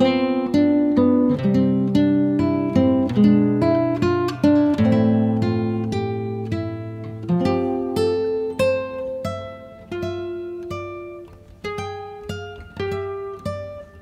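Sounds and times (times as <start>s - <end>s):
plucked string melody: 0.0s - 14.0s.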